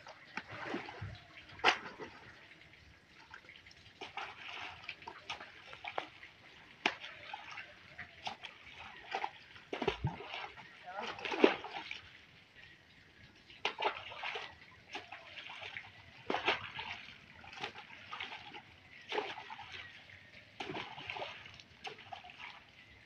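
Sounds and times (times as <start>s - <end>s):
fish splashing into pond: 0.0s - 2.5s, 3.2s - 12.1s, 13.6s - 22.7s.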